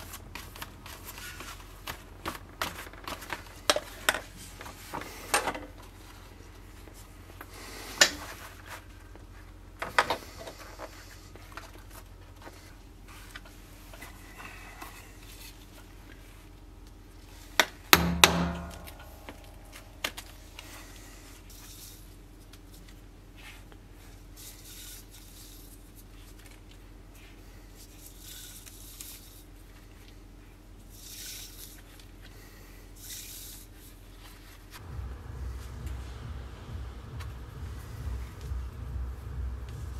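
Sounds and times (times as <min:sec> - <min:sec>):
rubbing and handling sounds: 0:00.0 - 0:17.6, 0:18.4 - 0:39.9.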